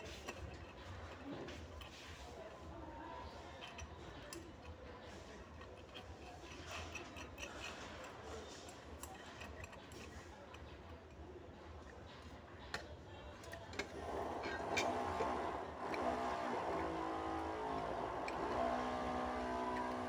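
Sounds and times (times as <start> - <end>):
clicks and scrapes of parts: 0.0 - 20.0.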